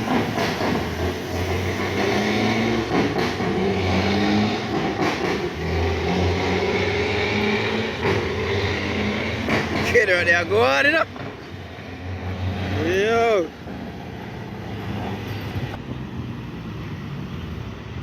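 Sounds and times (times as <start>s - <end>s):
truck diesel engine under load: 0.0s - 18.0s.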